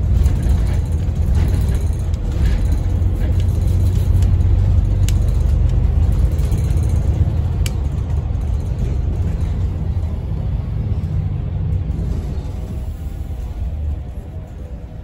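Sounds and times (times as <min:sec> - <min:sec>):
bus drivetrain and road rumble: 0:00.0 - 0:15.0.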